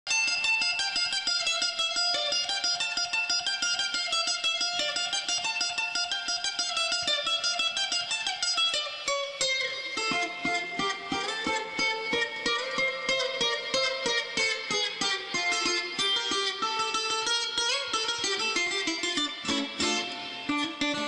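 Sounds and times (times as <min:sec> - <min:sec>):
plucked string instrument melody: 0:00.1 - 0:21.0.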